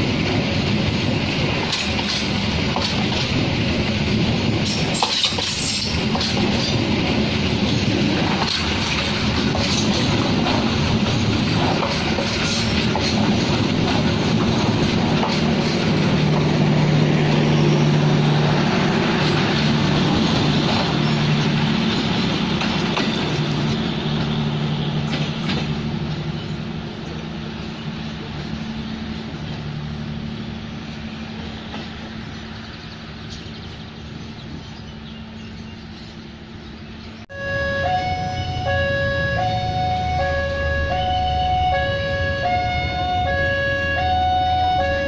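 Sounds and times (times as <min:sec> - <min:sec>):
train wheels rumbling on rails: 0:00.0 - 0:37.2.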